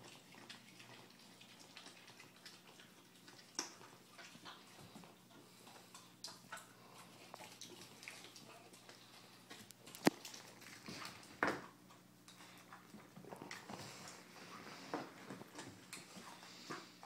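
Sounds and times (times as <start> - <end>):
dog chewing: 0.0 - 17.0
faint low hum: 0.0 - 17.0.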